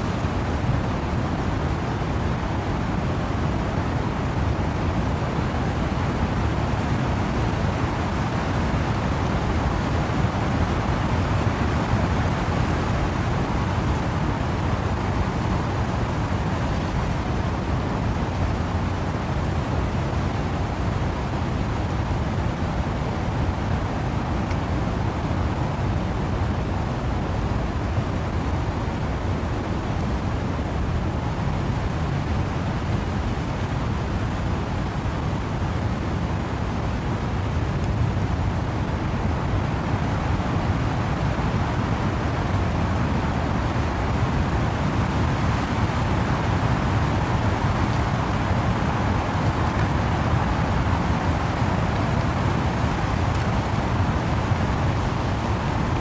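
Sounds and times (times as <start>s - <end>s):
steady rain: 0.0s - 56.0s
wind rushing through trees: 0.0s - 56.0s.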